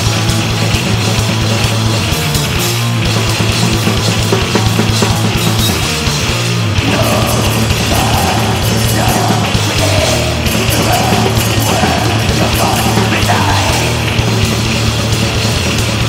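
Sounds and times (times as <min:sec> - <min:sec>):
metal band playing: 0:00.0 - 0:16.0.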